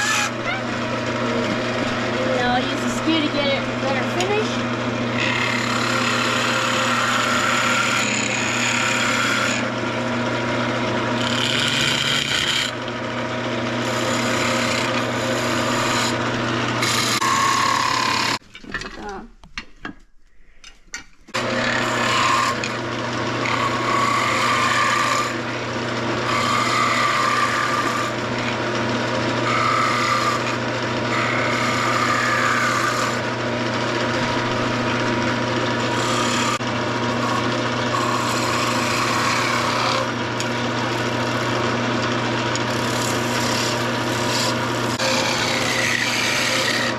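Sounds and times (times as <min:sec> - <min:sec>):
chisel cutting spinning wood: 0:00.0 - 0:18.4, 0:21.3 - 0:46.9
wood lathe motor hum: 0:00.0 - 0:18.4, 0:21.3 - 0:46.9.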